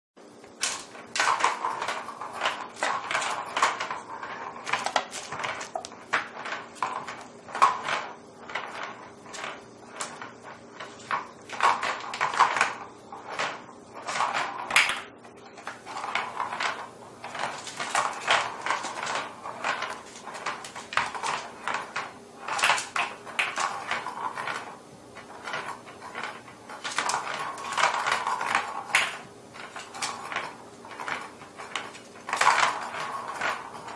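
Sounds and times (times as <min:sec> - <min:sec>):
plastic balls rattling in toy track: 0:00.5 - 0:33.9.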